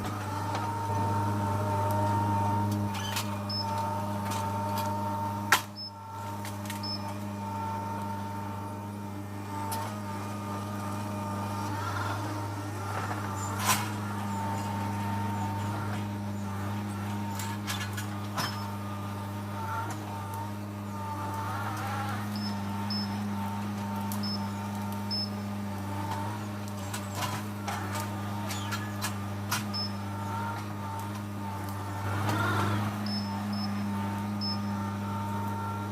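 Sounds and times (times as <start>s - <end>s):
skid steer engine running: 0.0s - 35.9s.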